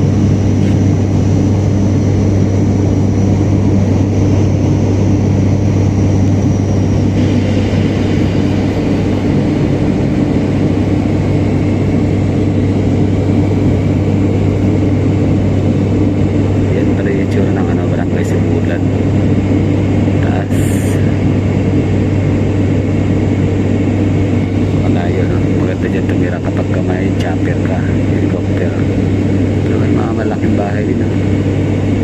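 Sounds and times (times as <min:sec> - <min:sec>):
airliner cabin engine hum: 0:00.0 - 0:32.0
faint high whine: 0:00.0 - 0:32.0.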